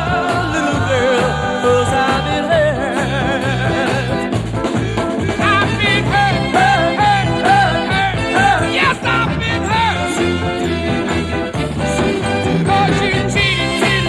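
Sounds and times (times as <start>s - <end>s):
rock and roll record playing: 0.0s - 14.0s.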